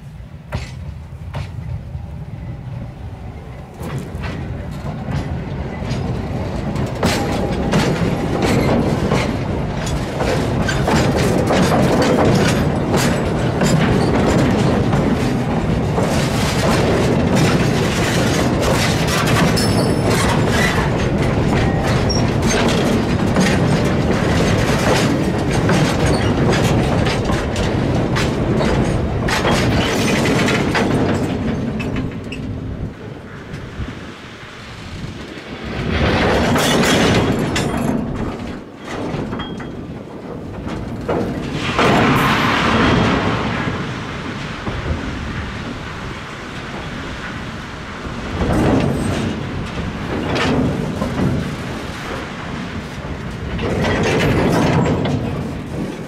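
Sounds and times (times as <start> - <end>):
train rumbling and rattling: 0.0 - 56.0
wheels clicking over rail joints: 0.0 - 56.0.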